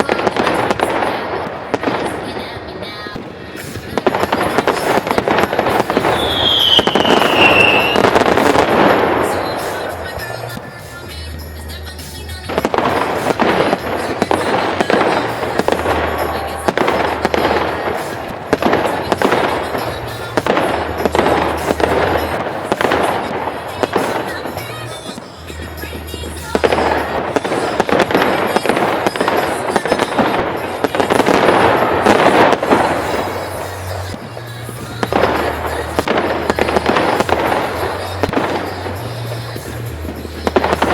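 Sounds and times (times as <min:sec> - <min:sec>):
fireworks bangs and crackling: 0:00.0 - 0:40.9
music playing: 0:00.0 - 0:40.9.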